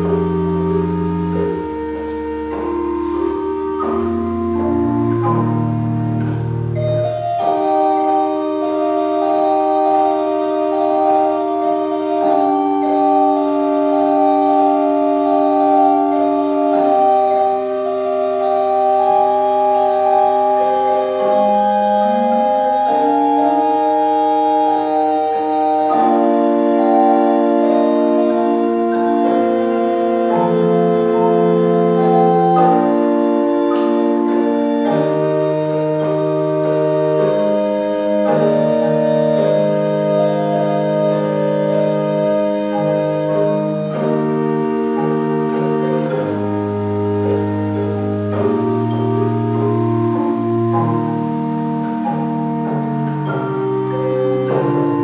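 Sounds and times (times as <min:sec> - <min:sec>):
organ playing chords: 0:00.0 - 0:55.0.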